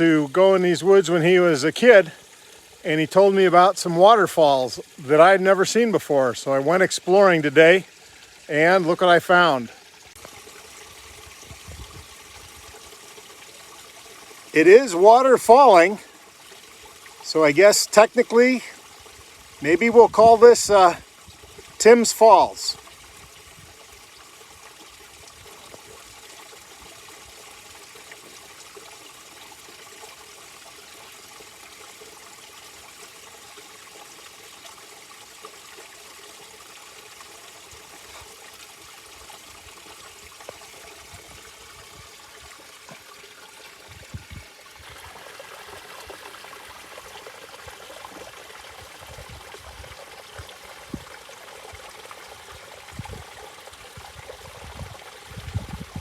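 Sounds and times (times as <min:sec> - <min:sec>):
water trickling over rocks: 0:00.0 - 0:56.0.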